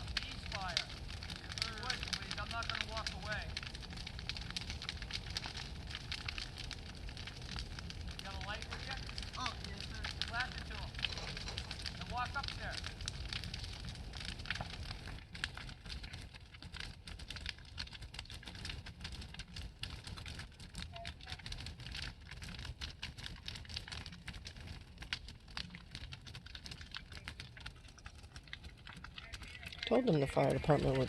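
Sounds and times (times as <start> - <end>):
bonfire crackling: 0.0 - 31.0.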